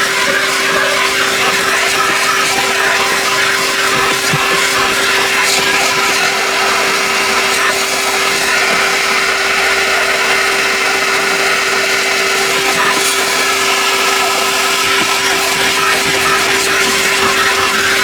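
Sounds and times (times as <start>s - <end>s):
cleaning machine motor humming: 0.0s - 18.0s.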